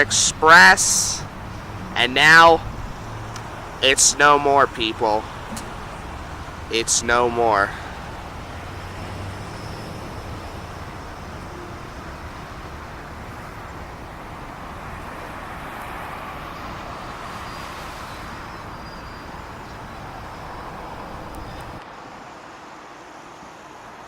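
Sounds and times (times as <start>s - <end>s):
traffic rumble: 0.0s - 21.8s.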